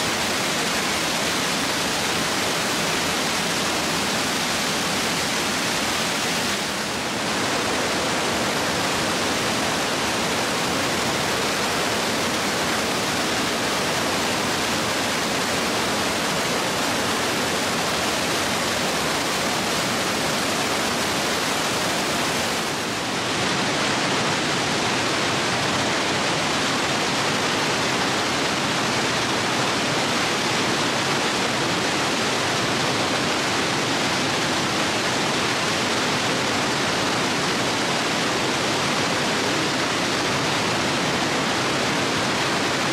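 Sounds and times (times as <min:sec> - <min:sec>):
loud rushing water: 0:00.0 - 0:42.9.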